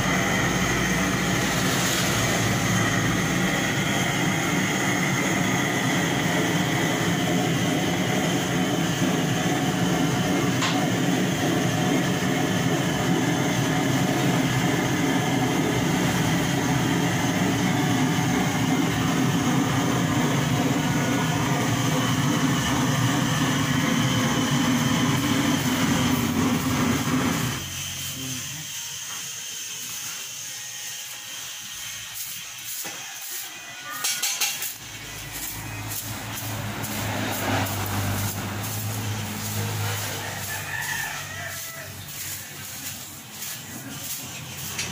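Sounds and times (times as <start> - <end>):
blowtorch burning loudly: 0.0 - 44.9.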